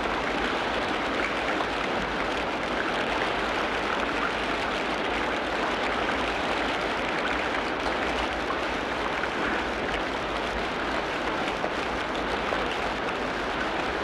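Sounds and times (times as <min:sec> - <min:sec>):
steady rain patter: 0:00.0 - 0:14.0.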